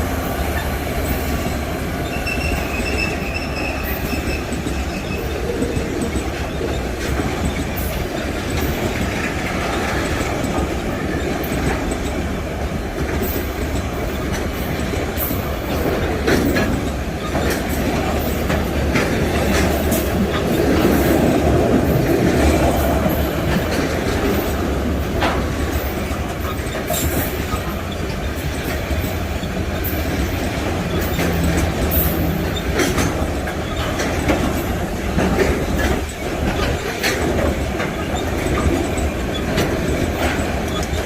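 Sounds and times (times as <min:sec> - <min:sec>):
freight train cars rumbling: 0:00.0 - 0:41.0
wheels clicking over rail joints: 0:00.0 - 0:41.0.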